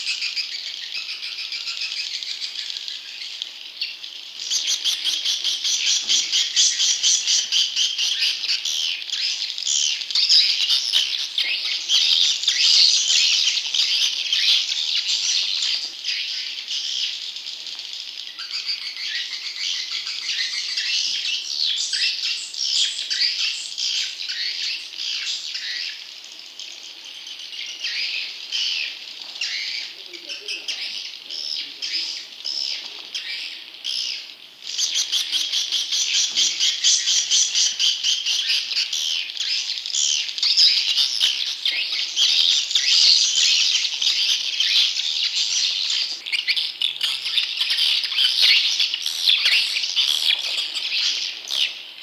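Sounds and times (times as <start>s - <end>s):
swiftlets chirping and twittering: 0.0s - 52.0s.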